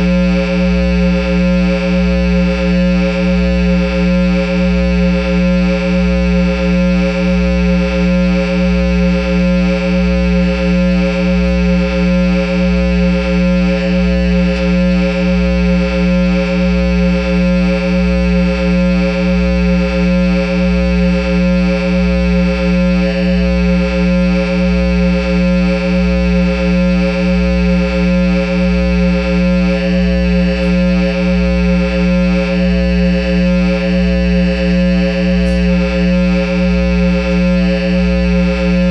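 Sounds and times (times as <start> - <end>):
loud electronic drone from amplifier: 0.0 - 38.9.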